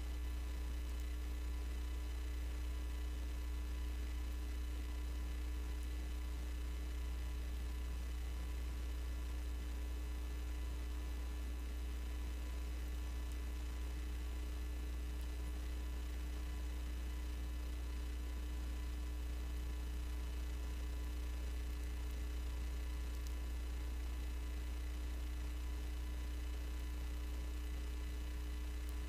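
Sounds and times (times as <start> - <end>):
mains hum: 0.0 - 29.0.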